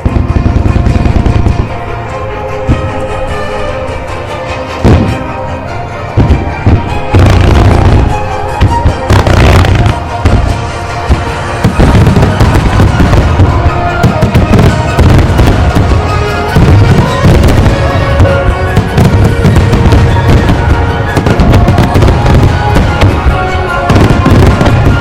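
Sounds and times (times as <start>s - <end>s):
fireworks booming and crackling: 0.0s - 3.6s, 4.7s - 25.0s
music playing: 0.0s - 25.0s.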